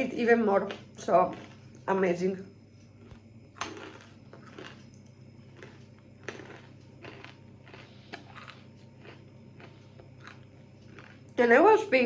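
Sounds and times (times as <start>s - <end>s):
person chewing peanuts: 0.6s - 1.9s, 2.8s - 11.4s.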